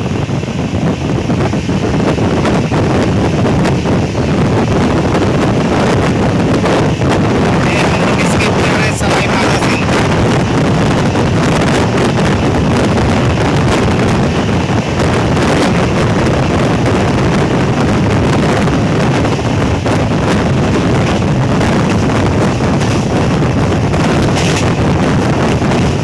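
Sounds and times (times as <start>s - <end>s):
fast train running: 0.0s - 26.0s
wind buffeting microphone: 0.0s - 26.0s.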